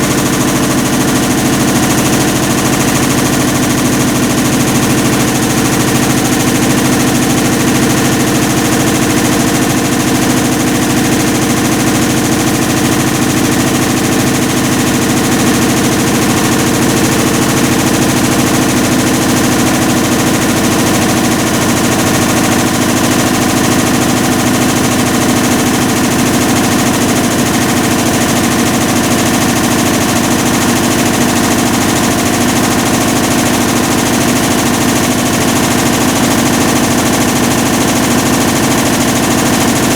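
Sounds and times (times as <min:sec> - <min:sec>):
washing machine rattling grind: 0:00.0 - 0:39.9.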